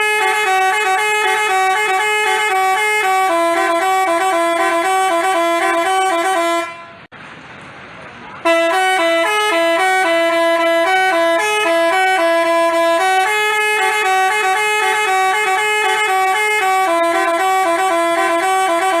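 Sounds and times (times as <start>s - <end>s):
multi-tone bus horn tune: 0.0s - 7.1s, 8.4s - 19.0s.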